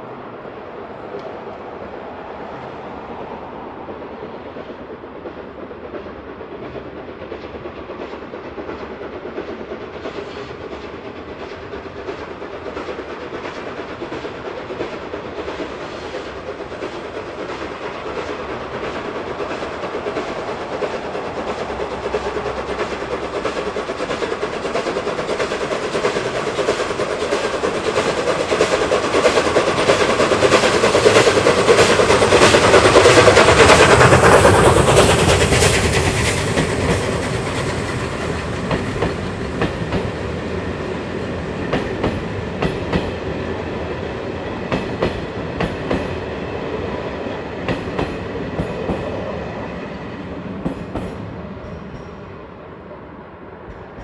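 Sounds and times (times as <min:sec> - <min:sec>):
train approaching: 0:00.0 - 0:54.0.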